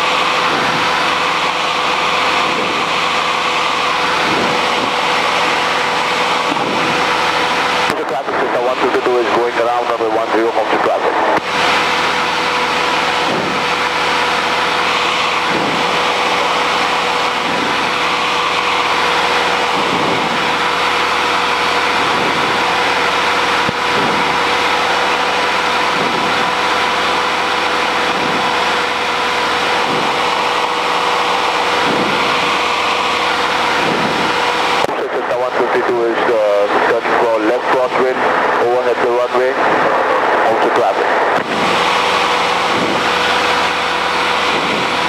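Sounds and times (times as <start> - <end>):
airplane engine drone in cabin: 0.0 - 45.0.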